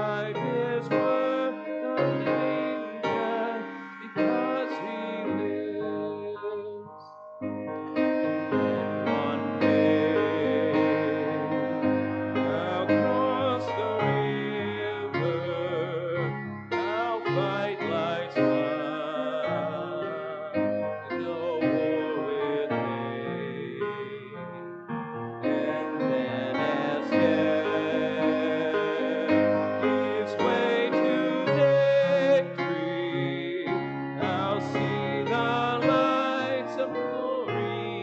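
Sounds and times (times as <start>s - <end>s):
piano accompaniment: 0.0s - 38.0s
slow melody with vibrato: 0.0s - 38.0s.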